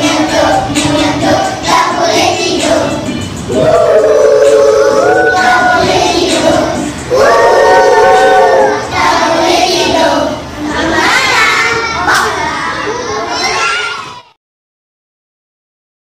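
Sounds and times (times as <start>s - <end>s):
children singing together: 0.0s - 14.2s.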